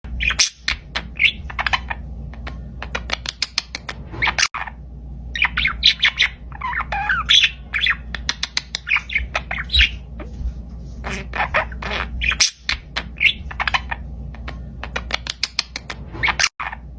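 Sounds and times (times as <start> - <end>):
parakeet squawks and chirps: 0.1 - 16.9.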